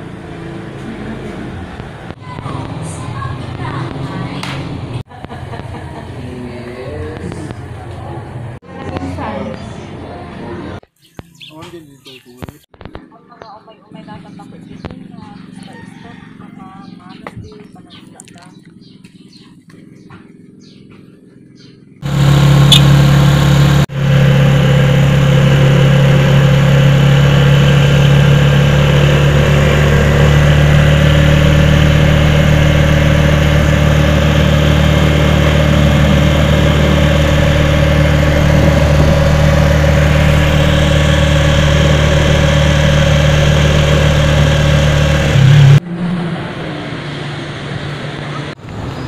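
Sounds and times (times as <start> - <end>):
small vehicle engine running: 0.0 - 10.8, 13.9 - 49.0.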